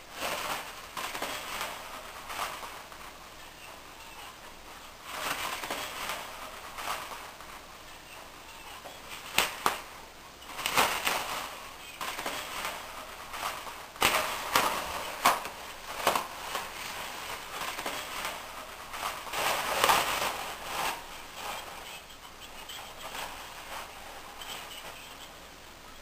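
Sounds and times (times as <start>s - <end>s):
tissue paper rustling and crinkling: 0.0s - 25.4s.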